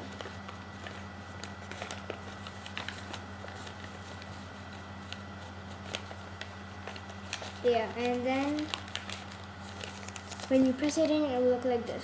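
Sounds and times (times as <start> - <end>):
paper clicks and crinkles: 0.0 - 11.8
steady low hum: 0.0 - 12.0.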